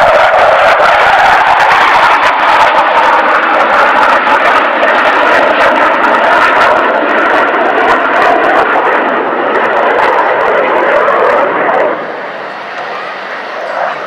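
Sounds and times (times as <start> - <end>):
loud jet engine noise with crackle: 0.0 - 14.0.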